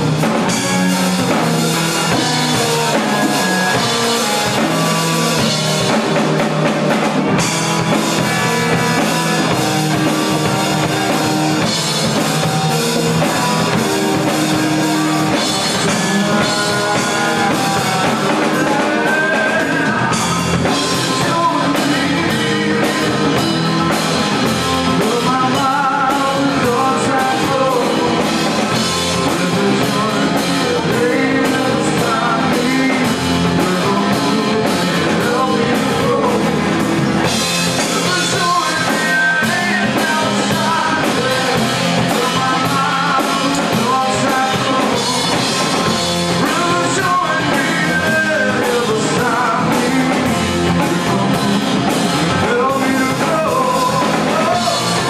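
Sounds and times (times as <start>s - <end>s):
drum kit: 0.0s - 55.0s
electric bass: 0.0s - 55.0s
electric guitar: 0.0s - 55.0s
person singing: 0.0s - 55.0s.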